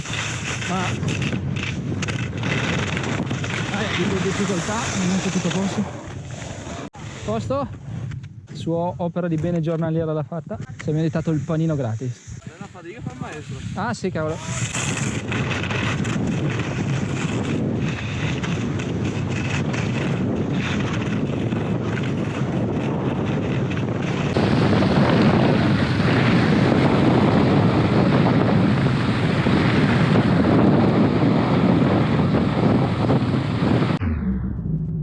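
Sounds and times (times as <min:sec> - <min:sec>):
skis sliding over snow: 0:00.0 - 0:07.4, 0:10.7 - 0:33.3
wind rushing over microphone: 0:00.0 - 0:35.0.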